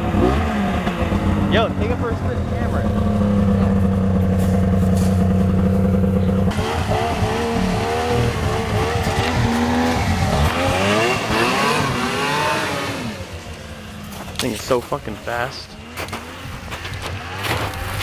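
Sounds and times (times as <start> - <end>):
snowmobile engine revving: 0.0 - 18.0.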